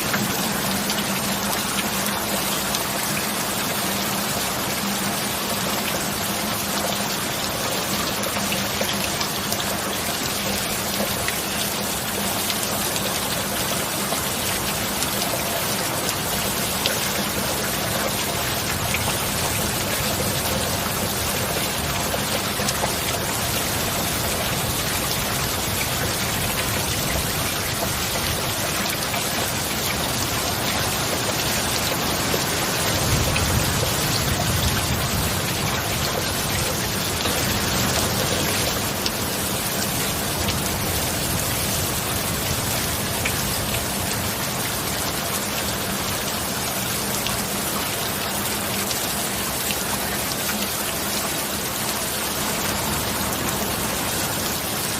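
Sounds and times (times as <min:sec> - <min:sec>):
rain falling on surfaces: 0:00.0 - 0:54.9.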